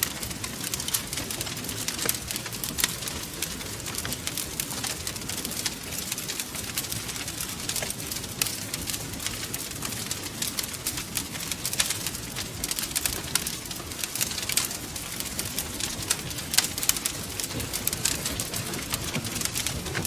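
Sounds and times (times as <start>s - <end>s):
low rumble of flames: 0.0s - 20.0s
wood fire crackling: 0.0s - 20.0s.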